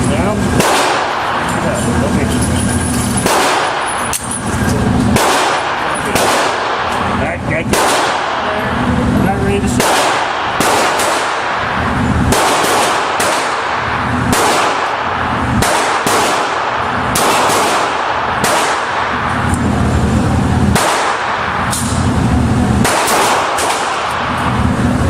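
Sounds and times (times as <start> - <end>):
steady loud background noise: 0.0 - 25.0
gunshots: 0.3 - 8.6, 9.7 - 19.4, 20.7 - 22.2, 22.8 - 24.6.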